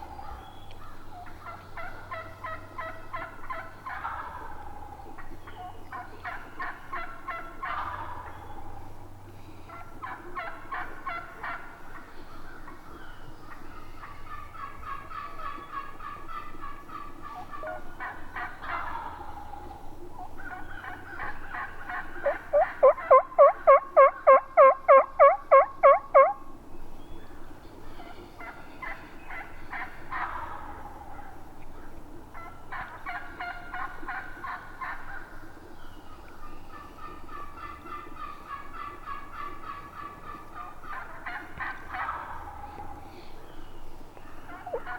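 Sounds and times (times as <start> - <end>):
turkey gobbling: 0.0 - 8.9, 9.6 - 26.6, 27.3 - 43.5, 44.2 - 44.9
turkey yelps: 1.2 - 8.4, 9.7 - 11.8, 13.5 - 26.4, 28.4 - 35.2, 36.7 - 43.2, 44.2 - 44.9.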